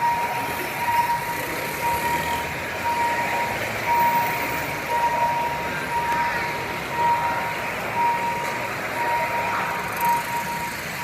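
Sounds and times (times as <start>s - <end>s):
level crossing warning beeps: 0.0s - 11.0s
road traffic noise: 0.0s - 11.0s.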